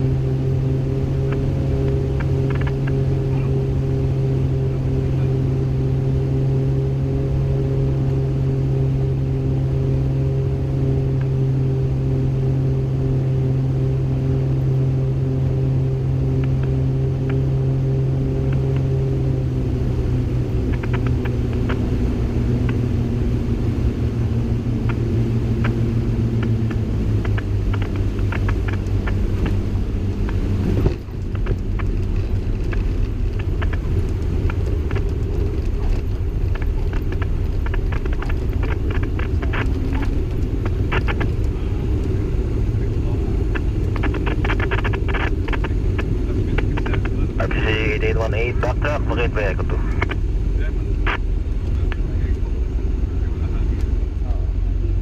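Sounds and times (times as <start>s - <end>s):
piston aircraft engines droning: 0.0s - 55.0s.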